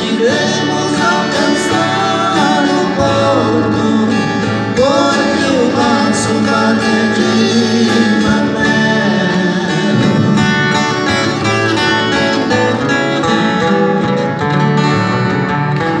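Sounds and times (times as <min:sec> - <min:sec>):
acoustic guitars through speakers: 0:00.0 - 0:16.0.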